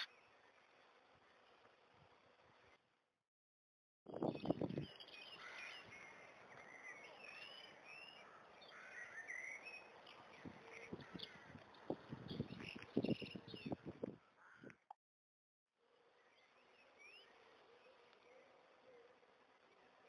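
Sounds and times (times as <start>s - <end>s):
songbirds chirping: 0.0s - 2.8s, 4.1s - 15.0s, 15.8s - 20.0s.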